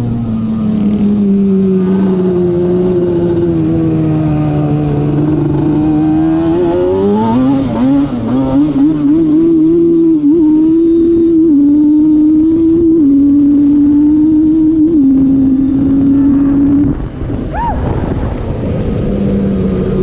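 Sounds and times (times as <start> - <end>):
two-stroke engine revving: 0.8 - 17.0.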